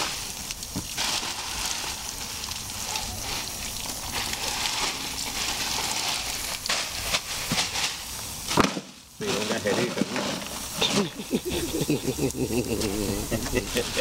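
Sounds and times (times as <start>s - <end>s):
plastic bag of ice crinkling: 0.0s - 11.3s.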